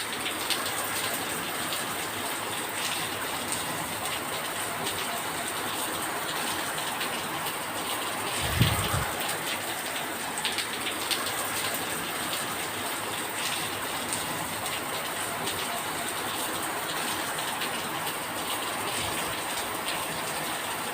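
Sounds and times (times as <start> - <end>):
rain pattering: 0.0 - 20.9.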